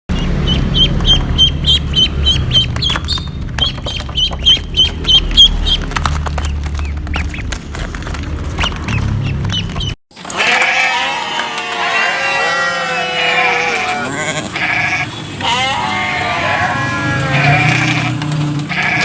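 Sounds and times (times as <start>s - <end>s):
ducks calling: 0.1s - 7.6s, 8.6s - 19.0s.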